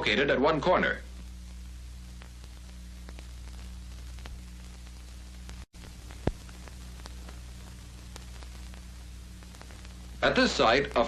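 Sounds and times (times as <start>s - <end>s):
faint crackles: 0.0s - 11.0s
film hiss: 0.0s - 11.0s
low hum: 1.0s - 11.0s.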